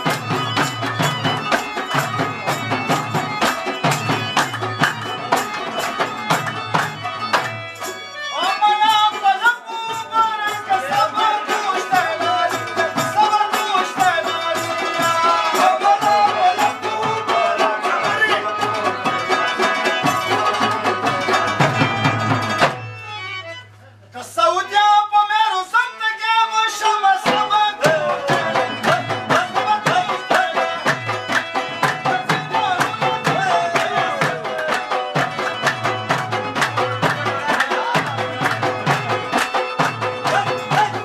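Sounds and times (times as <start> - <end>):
fast drumming: 0.0 - 22.9, 26.9 - 41.0
folk dance music: 0.0 - 41.0.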